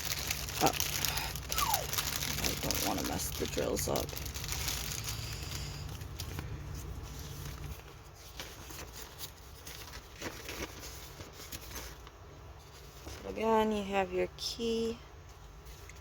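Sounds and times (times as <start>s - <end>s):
plastic bags rustling and clicking: 0.0s - 13.5s
low steady hum: 0.0s - 16.0s.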